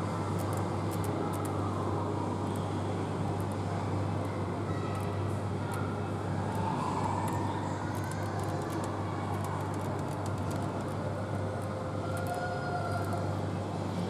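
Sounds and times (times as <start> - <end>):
supermarket background hum: 0.0 - 14.0.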